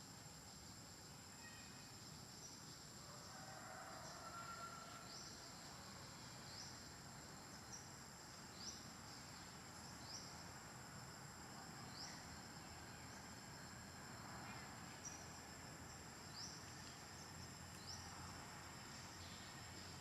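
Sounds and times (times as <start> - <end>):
insect buzz: 0.0 - 20.0
rising insect chirp: 0.0 - 20.0.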